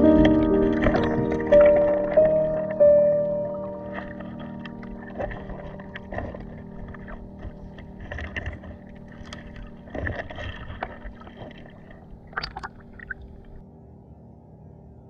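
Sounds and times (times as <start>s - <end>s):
splashing: 0.0s - 13.6s
water sloshing and swishing: 0.0s - 13.6s.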